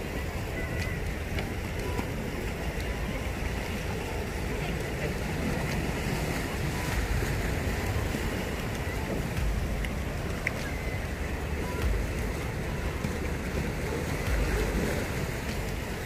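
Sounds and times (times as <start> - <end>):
small waves on shore: 0.0 - 16.0
wind buffeting microphone: 0.0 - 16.0.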